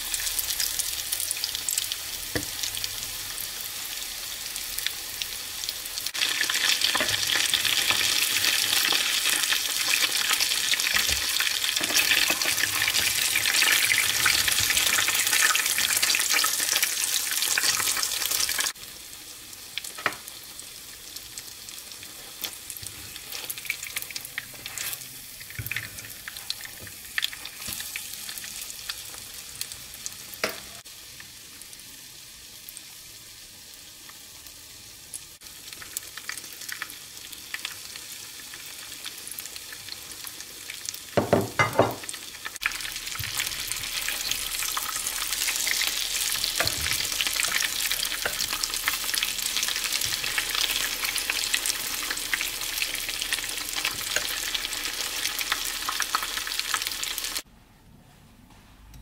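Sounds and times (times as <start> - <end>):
hot oil sizzling: 0.0 - 57.5.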